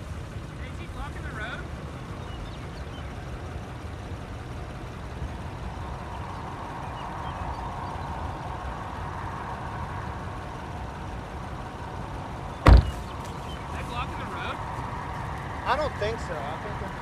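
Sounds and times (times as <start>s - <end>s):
vehicle engine running: 0.0s - 17.0s
wind rumble: 1.6s - 16.0s.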